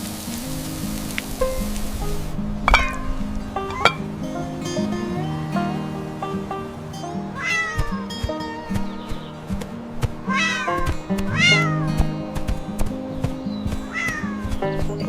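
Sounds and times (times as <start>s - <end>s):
background music with sustained notes: 0.0s - 15.0s.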